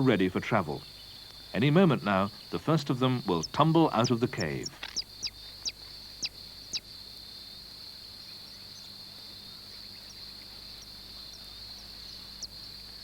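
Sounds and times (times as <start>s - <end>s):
faint bird chirps: 0.0s - 7.0s, 8.1s - 13.0s
high-pitched insect trill: 0.7s - 13.0s.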